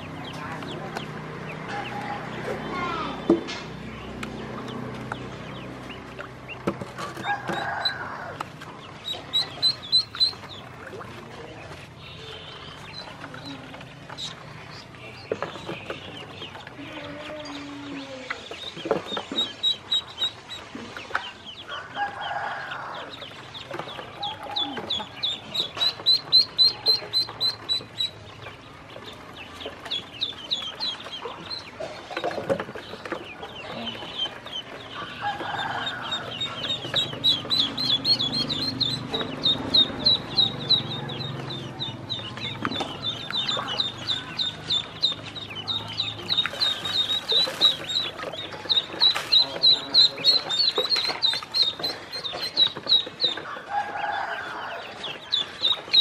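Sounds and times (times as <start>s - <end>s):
ducklings peeping: 0.0s - 56.0s.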